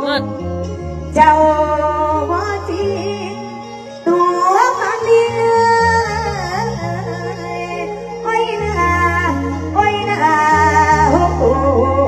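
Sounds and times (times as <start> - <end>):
band backing music: 0.0 - 12.0
bass line: 0.0 - 12.0
woman singing into microphone: 1.1 - 12.0.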